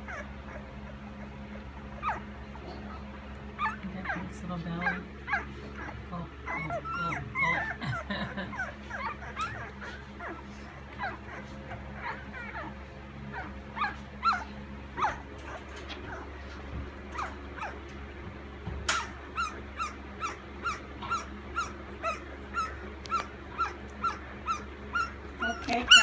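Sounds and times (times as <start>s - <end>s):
puppy whimpering: 0.0s - 17.8s, 18.9s - 26.0s.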